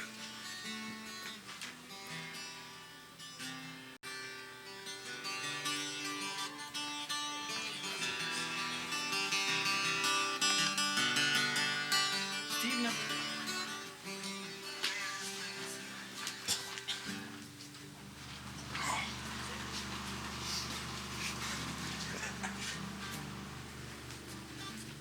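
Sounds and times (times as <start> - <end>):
instrumental guitar music: 0.0 - 25.0.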